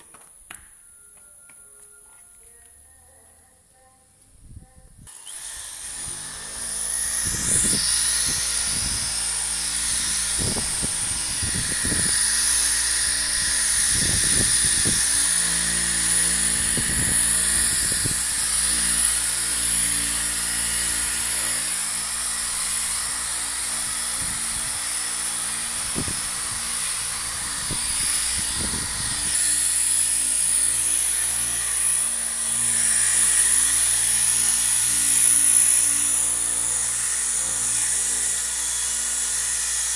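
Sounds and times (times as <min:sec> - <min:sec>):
electric polisher whining: 0:05.1 - 0:39.9.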